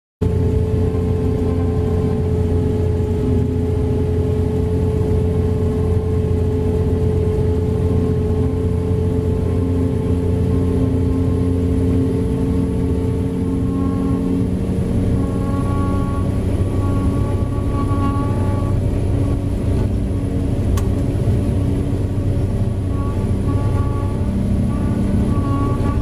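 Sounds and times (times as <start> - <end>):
constant whine: 0.2 - 26.0
diesel engine drone: 0.2 - 26.0.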